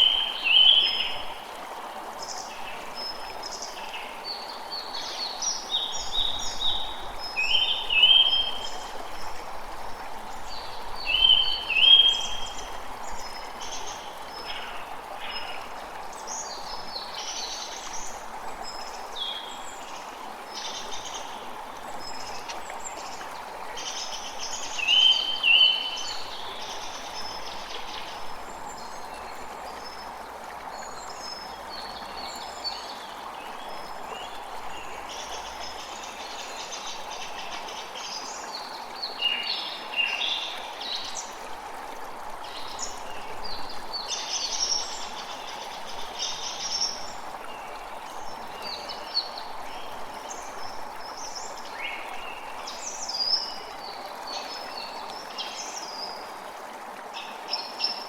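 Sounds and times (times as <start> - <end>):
creek running: 0.0 - 58.0.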